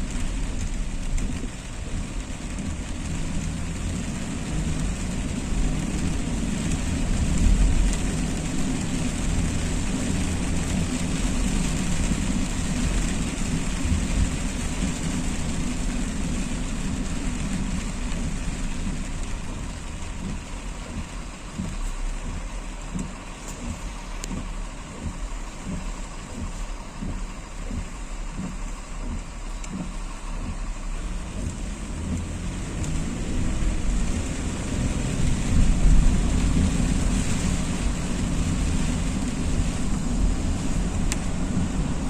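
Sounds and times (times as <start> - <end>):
engine and tyres rumbling: 0.0 - 42.0
rain hiss and wet road noise: 0.0 - 42.0.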